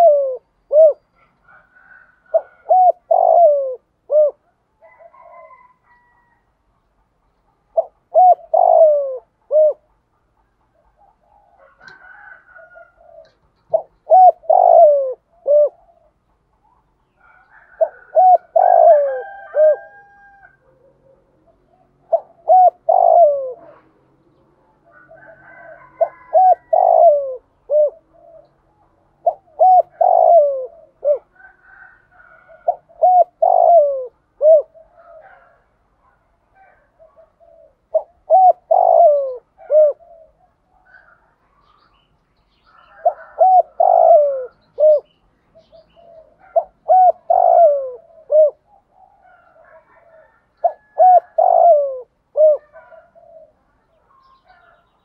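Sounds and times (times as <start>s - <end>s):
dove cooing: 0.0s - 6.4s, 7.4s - 55.0s.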